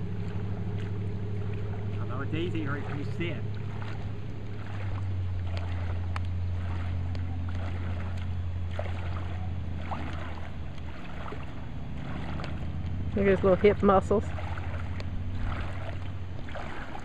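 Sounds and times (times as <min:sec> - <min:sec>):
steady low rumble: 0:00.0 - 0:17.0
water splashing and lapping: 0:00.0 - 0:17.0.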